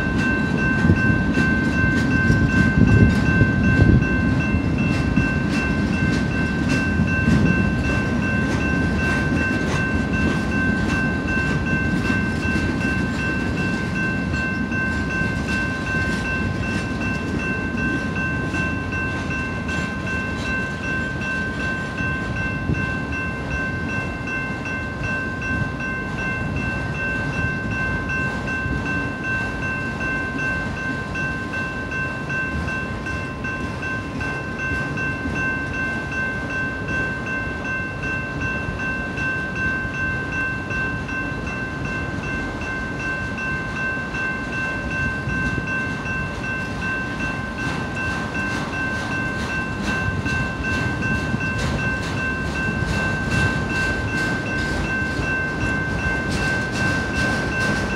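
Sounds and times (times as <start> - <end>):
crossing warning bell ringing: 0.0 - 57.9
train wheels clattering on rails: 0.0 - 57.9.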